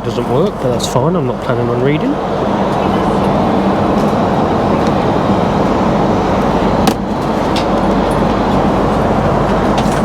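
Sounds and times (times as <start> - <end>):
airliner cabin air and engine noise: 0.0 - 10.0.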